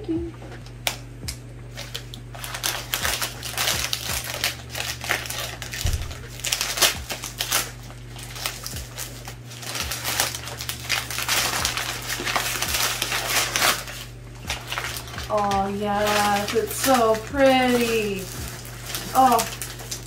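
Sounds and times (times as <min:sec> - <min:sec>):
paper sleeves crinkling: 0:01.7 - 0:20.0.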